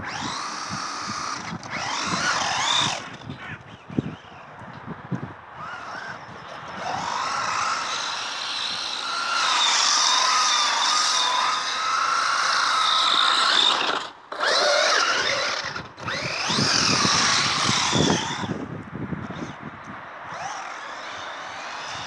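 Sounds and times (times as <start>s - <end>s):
electric motor whining: 0.0s - 4.2s, 5.5s - 19.6s, 20.3s - 22.0s.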